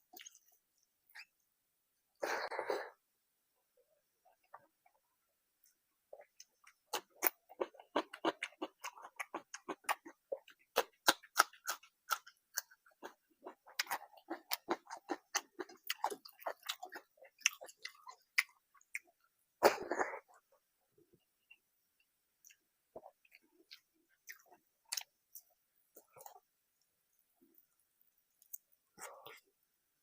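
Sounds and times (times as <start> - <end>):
person chewing food: 0.1 - 1.4, 5.6 - 20.5, 21.4 - 29.5.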